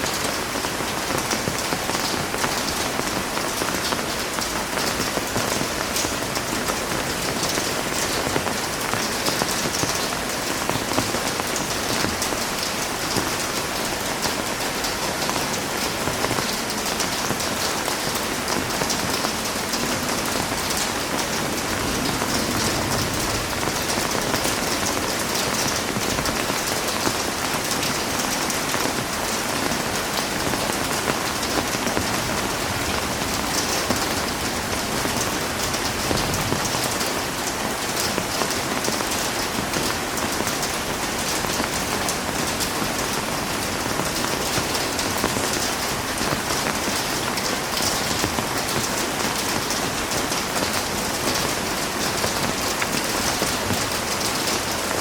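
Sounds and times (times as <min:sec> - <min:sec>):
faint wind: 0:00.0 - 0:55.0
heavy rain: 0:00.0 - 0:55.0.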